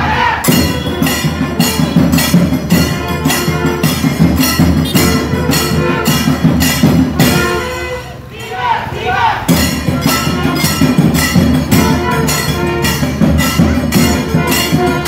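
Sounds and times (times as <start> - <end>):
percussion beat: 0.0 - 15.0.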